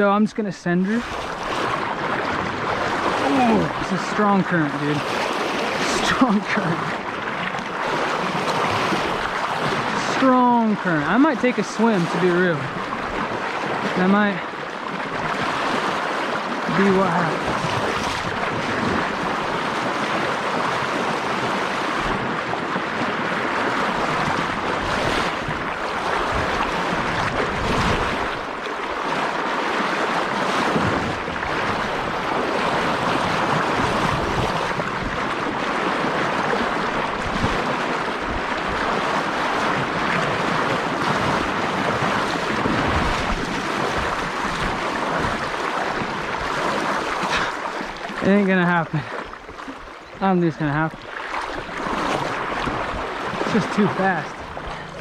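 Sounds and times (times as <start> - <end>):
river current rushing: 0.0 - 55.0
wind buffeting microphone: 0.9 - 11.4, 12.1 - 55.0.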